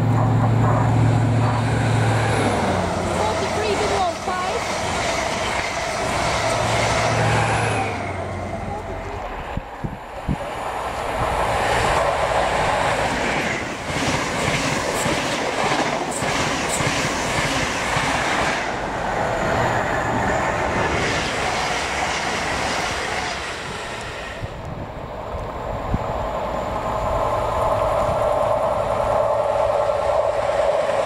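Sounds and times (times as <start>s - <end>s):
rushing air: 0.0s - 31.0s
train passing at speed: 0.0s - 31.0s.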